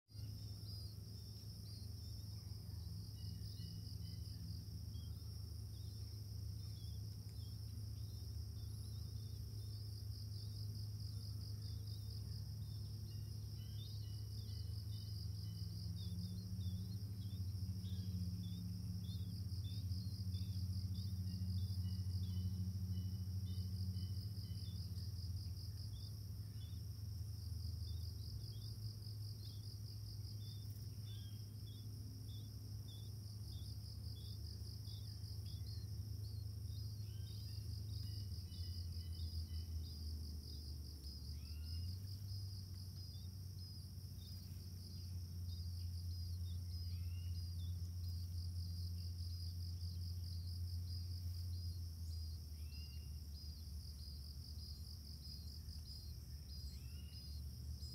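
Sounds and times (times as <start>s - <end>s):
insects chirring: 0.1s - 57.9s.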